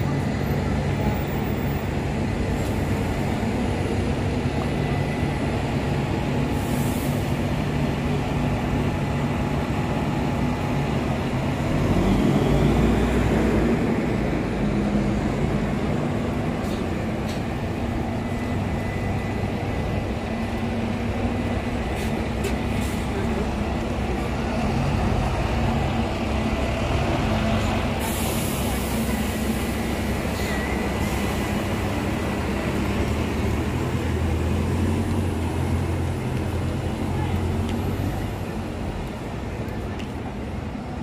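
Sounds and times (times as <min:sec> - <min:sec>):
bus engines humming: 0:00.0 - 0:41.0
street traffic: 0:00.0 - 0:41.0.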